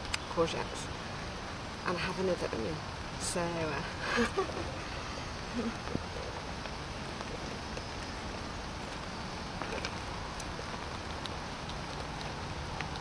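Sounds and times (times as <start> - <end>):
light rain patter: 0.0 - 13.0.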